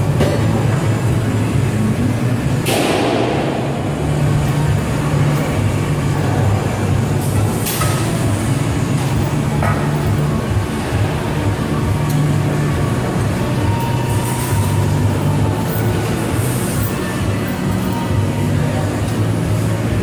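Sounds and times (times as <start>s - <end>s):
heavy shop machinery humming: 0.0s - 20.0s.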